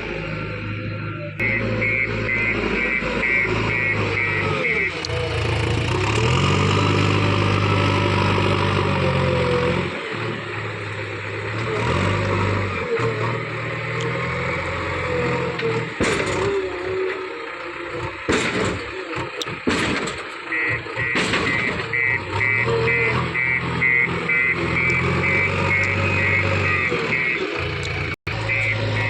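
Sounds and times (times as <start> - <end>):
diesel engine working under load: 0.0 - 29.0.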